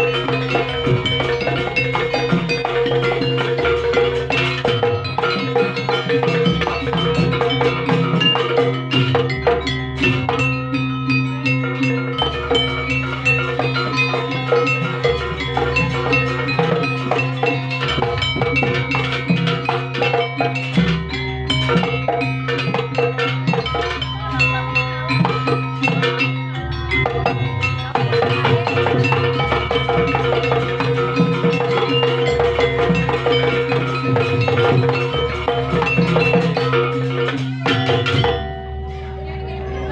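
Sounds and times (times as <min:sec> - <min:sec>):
chiming struck percussion: 0:00.0 - 0:39.9
drums: 0:00.0 - 0:39.9.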